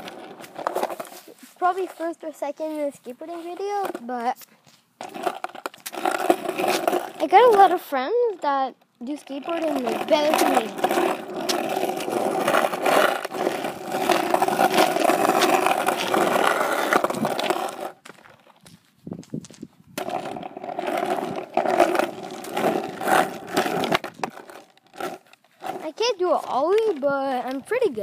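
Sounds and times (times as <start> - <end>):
skateboard wheels rolling on asphalt: 0.0 - 28.0.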